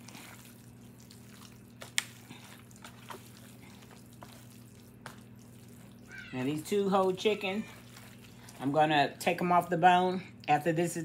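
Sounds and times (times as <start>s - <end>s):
hand squishing wet food: 0.0s - 9.6s
low steady hum: 0.0s - 11.0s.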